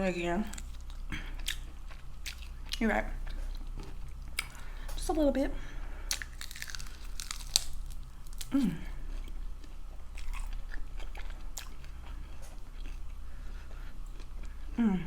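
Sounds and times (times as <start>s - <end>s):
low hum of pleasure: 0.0s - 15.0s
crunchy chewing: 0.5s - 4.8s, 6.1s - 14.8s.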